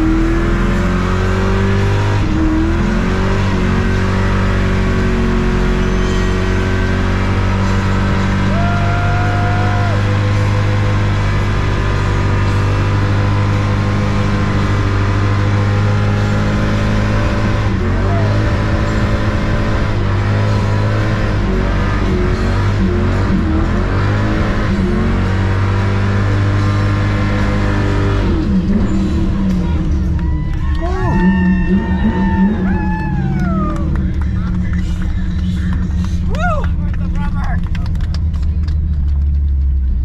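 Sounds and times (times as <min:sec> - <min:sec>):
car engine at high revs: 0:00.0 - 0:40.0.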